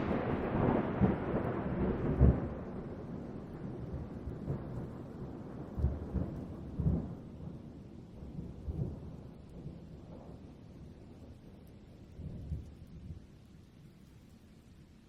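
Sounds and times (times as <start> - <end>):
thunder rumbling: 0.0 - 13.9
steady rain: 0.0 - 15.0.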